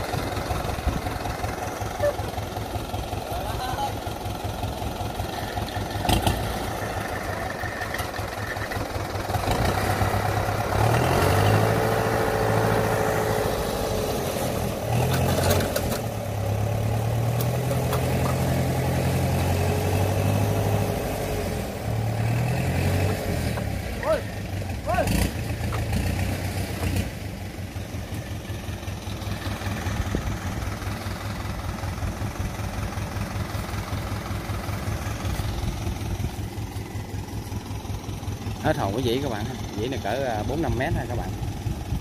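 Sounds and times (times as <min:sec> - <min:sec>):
diesel engine revving: 0:00.0 - 0:42.0.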